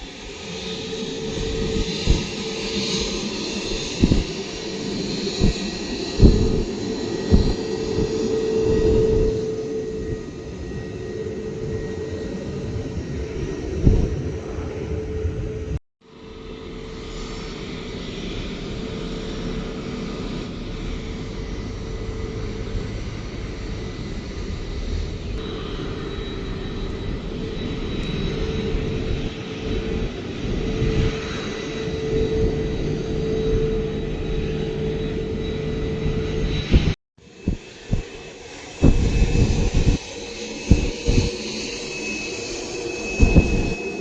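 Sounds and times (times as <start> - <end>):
jet engines running with whine: 0.0 - 44.0.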